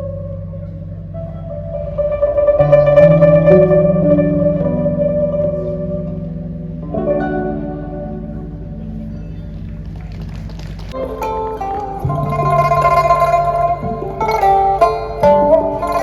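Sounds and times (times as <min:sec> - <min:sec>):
music with plucked strings: 0:00.0 - 0:16.0.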